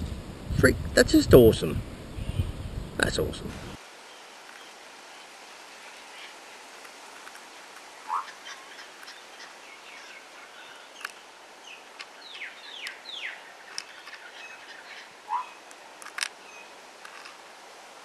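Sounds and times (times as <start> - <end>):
background hiss: 0.0 - 18.0
birds chirping: 1.3 - 6.7, 7.9 - 17.4.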